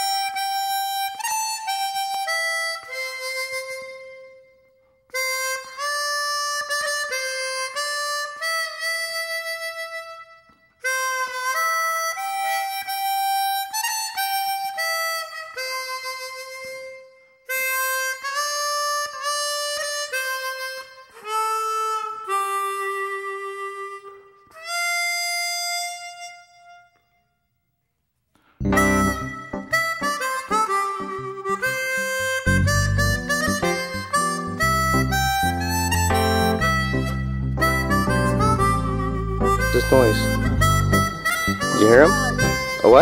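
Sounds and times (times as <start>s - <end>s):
solo harmonica melody: 0.0s - 27.6s, 28.6s - 43.0s.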